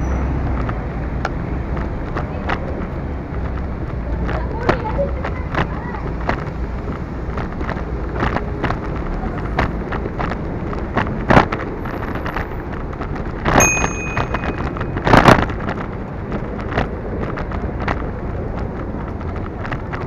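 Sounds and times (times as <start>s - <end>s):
bicycle road rumble: 0.0s - 20.0s
knocks from road bumps: 0.4s - 20.0s.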